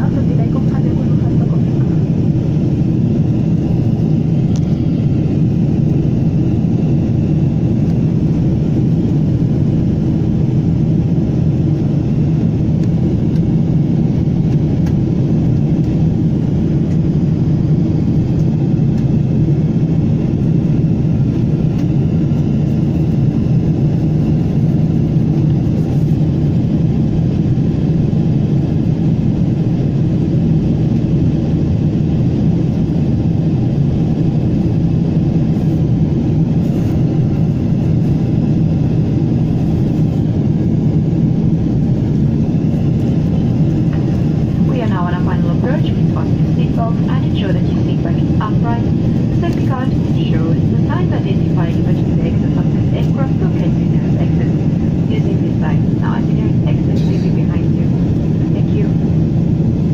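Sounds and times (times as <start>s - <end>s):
jet engine and airflow rumble in cabin: 0.0s - 59.9s.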